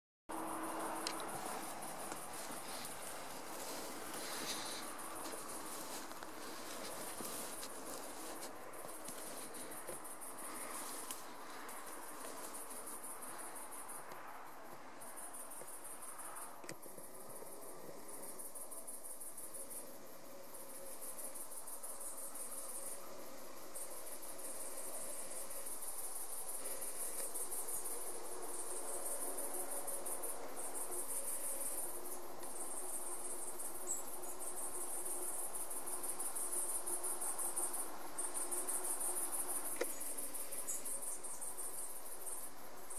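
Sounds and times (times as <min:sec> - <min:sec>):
crickets chirping: 0:00.3 - 0:42.9.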